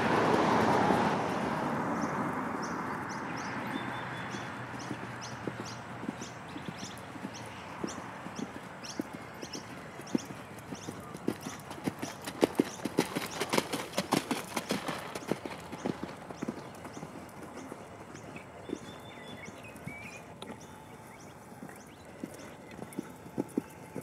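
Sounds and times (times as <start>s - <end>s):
horse hoofbeats on sand: 3.1s - 24.0s.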